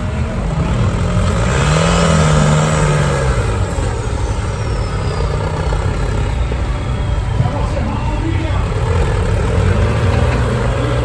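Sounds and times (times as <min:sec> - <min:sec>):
off-road buggy engine revving: 0:00.0 - 0:11.0.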